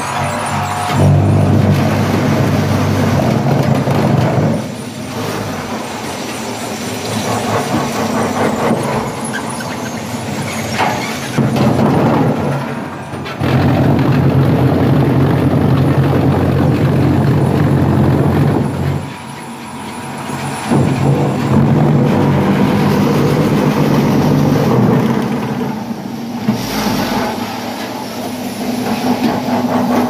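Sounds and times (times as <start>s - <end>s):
block making machine humming: 0.0s - 30.0s.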